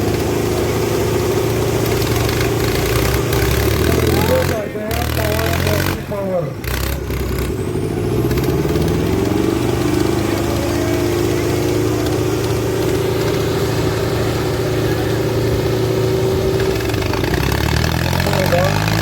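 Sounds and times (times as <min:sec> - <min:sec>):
diesel tractor engines under load: 0:00.0 - 0:19.0.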